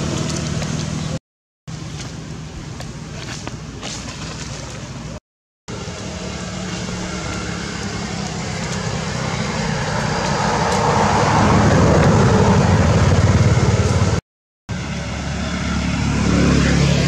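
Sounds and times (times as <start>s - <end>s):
motor vehicle approaching: 0.0s - 17.0s.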